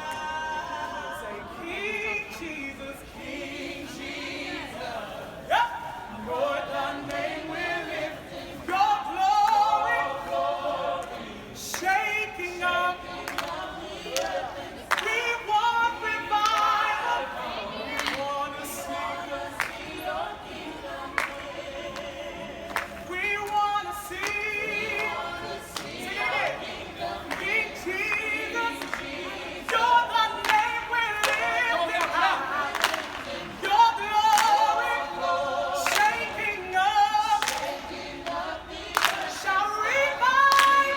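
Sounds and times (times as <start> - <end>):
group singing a cappella: 0.0 - 40.9.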